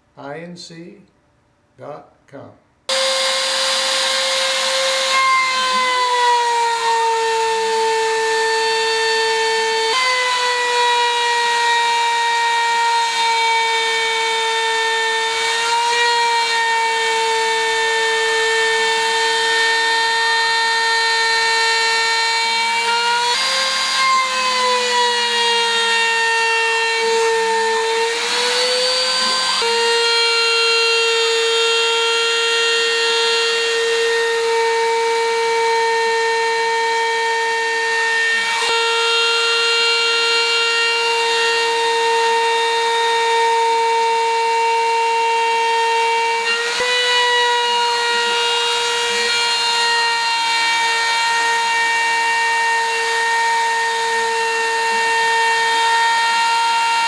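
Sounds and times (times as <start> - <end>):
router spindle whining: 2.9 - 57.0.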